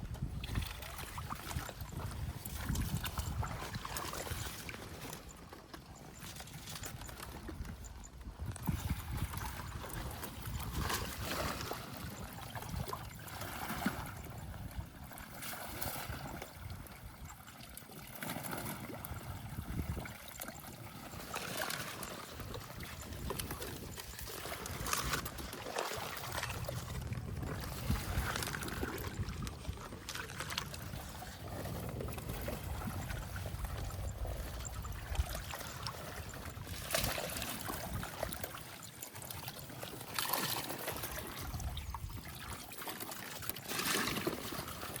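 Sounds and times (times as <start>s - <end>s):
water sloshing and trickling: 0.0s - 45.0s.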